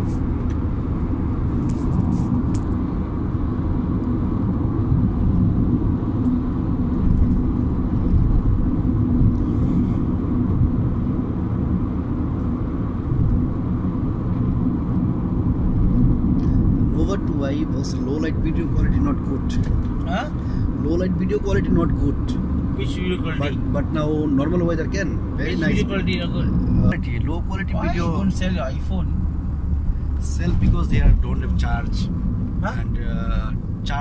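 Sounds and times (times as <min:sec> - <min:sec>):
car interior road rumble: 0:00.0 - 0:34.0.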